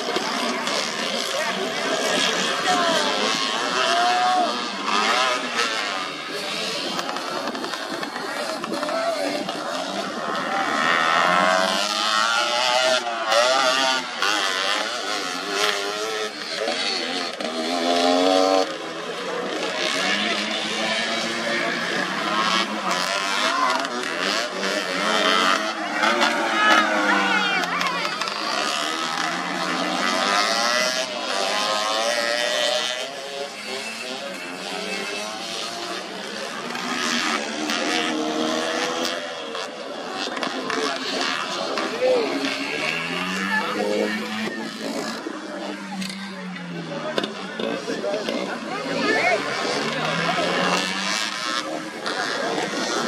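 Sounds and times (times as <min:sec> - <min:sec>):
scooter engines revving hard: 0:00.0 - 0:53.0.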